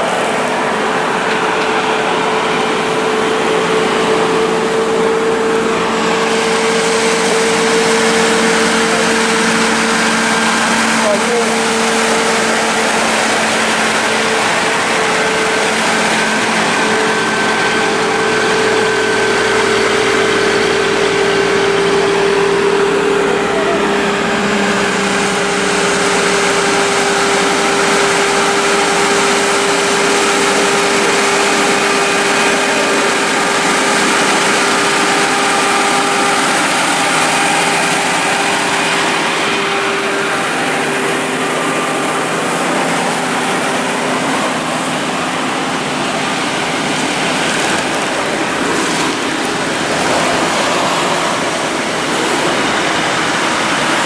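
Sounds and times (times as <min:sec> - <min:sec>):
passing traffic: 0:00.0 - 0:54.0
truck diesel engine and tyres: 0:00.0 - 0:54.0.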